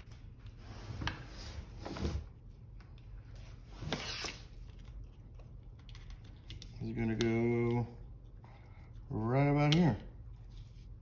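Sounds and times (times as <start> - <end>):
wires rubbing and rustling: 0.0 - 11.0.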